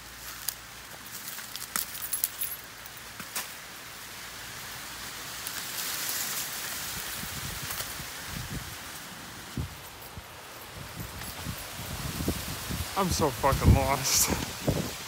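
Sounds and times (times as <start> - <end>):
dry leaves crackling underfoot: 0.0 - 15.0.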